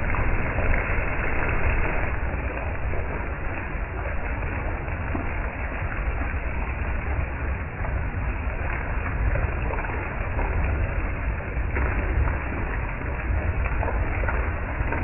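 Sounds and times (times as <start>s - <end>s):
storm wind gusting on microphone: 0.0s - 15.0s.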